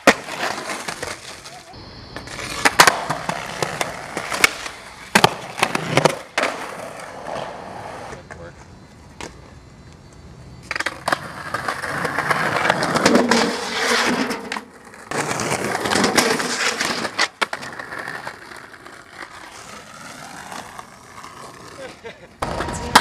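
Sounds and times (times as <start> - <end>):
skateboard wheels on rough pavement: 0.0 - 23.0.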